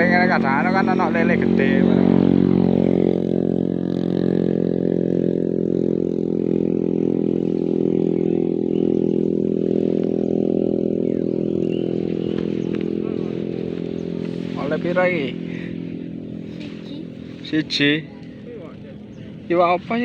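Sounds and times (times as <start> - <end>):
small engine humming: 0.0 - 20.0.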